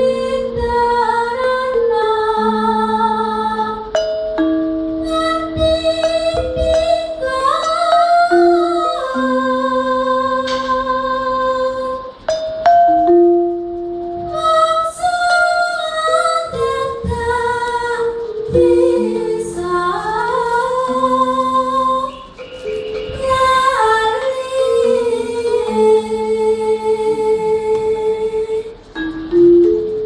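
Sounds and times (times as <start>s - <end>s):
woman singing into a microphone: 0.0s - 4.0s, 5.0s - 12.2s, 14.3s - 22.4s, 23.1s - 28.8s
metallophones and gongs ringing: 0.0s - 27.3s.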